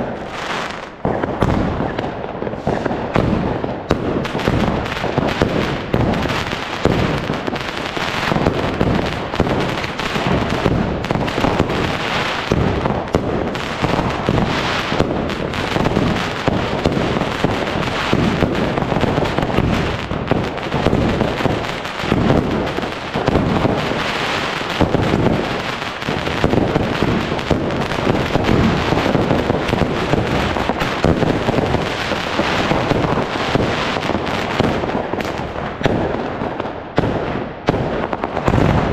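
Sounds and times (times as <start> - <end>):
fireworks and firecrackers banging: 0.0 - 38.9.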